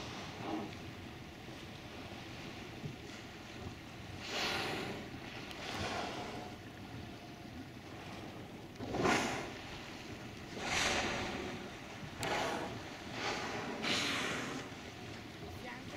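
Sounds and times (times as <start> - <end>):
sea noise: 0.0 - 15.9
wind: 0.0 - 15.9.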